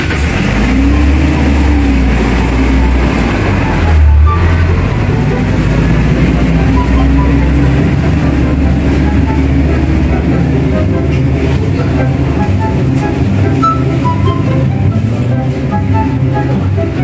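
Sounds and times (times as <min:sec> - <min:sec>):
background music with low chords: 0:00.4 - 0:17.0.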